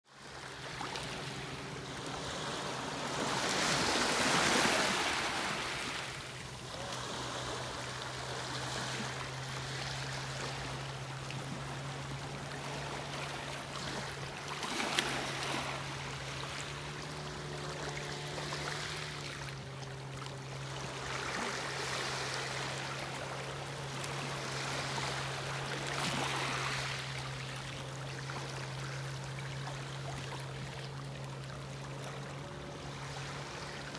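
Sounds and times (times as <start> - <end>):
steady low hum: 0.2 - 33.9
waves lapping against rocks: 0.2 - 33.9.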